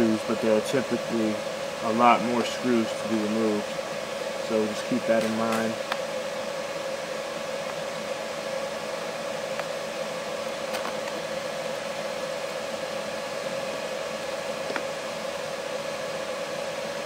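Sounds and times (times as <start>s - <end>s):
mid-pitched hum: 0.0s - 17.0s.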